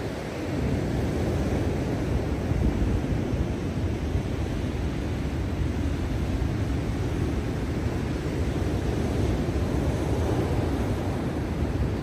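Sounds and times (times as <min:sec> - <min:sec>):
stormy ocean surf: 0:00.0 - 0:12.0.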